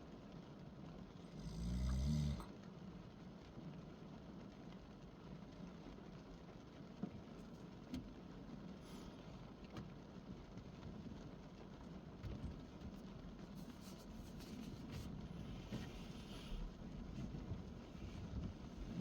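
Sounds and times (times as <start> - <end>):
rain patter on a car: 0.0 - 19.0.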